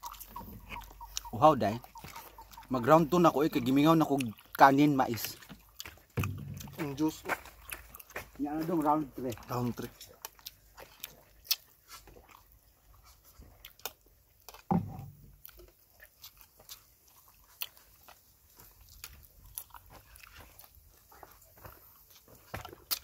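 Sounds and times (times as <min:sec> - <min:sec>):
mouth chewing: 0:00.0 - 0:23.0.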